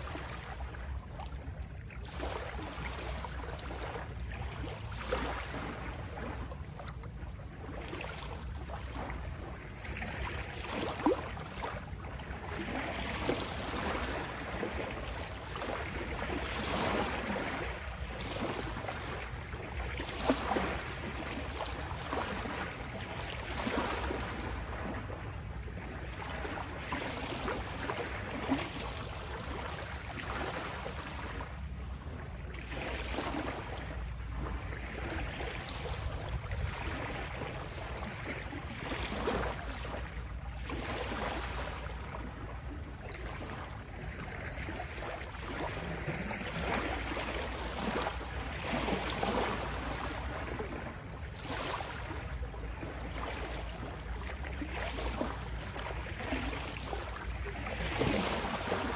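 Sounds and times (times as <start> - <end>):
small waves lapping: 0.0 - 58.9.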